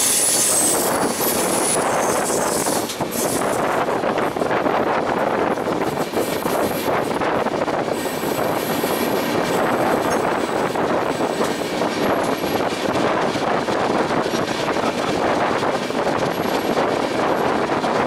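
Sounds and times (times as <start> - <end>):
moving train rushing: 0.0 - 18.0.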